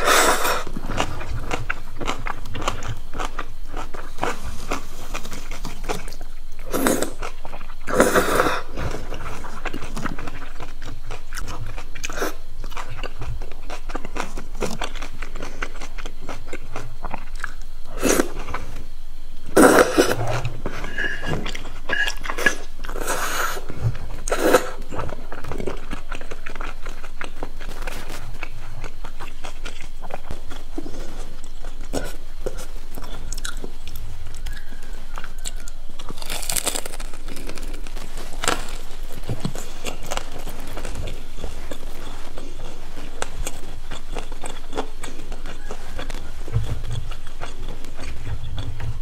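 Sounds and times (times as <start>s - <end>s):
chewing crispy fried food: 0.0s - 18.8s, 19.5s - 49.0s.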